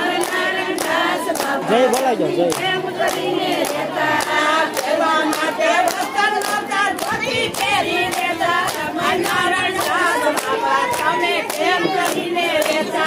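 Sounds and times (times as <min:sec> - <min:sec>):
hands clapping in time: 0:00.0 - 0:13.0
women singing together: 0:00.0 - 0:13.0.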